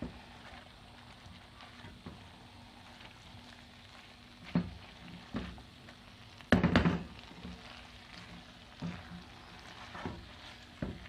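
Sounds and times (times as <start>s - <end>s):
spatula scraping a wok: 0.0s - 11.0s.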